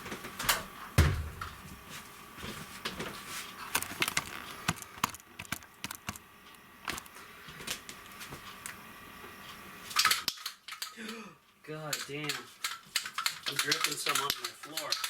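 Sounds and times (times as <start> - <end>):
faint high hum: 0.0 - 12.6.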